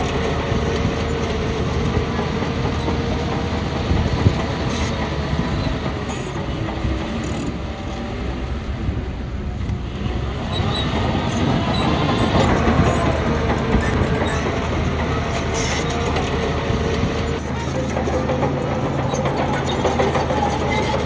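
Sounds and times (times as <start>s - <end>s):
bulldozer diesel engine under load: 0.0s - 21.0s
steel tracks clanking: 0.0s - 21.0s.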